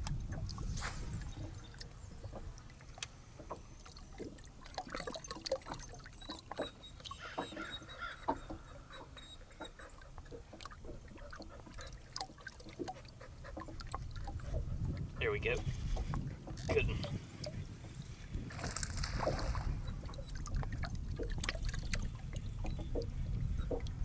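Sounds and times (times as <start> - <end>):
water trickling and splashing: 0.0 - 24.0.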